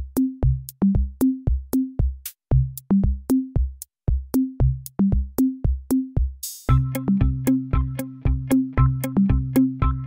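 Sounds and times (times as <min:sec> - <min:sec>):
drum-machine beat: 0:00.0 - 0:10.0.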